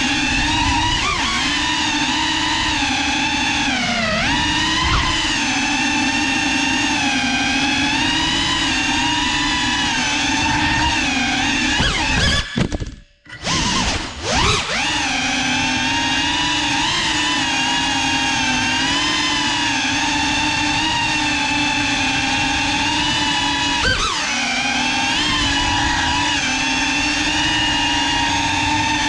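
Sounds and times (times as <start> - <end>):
drone propellers whining: 0.0 - 29.0.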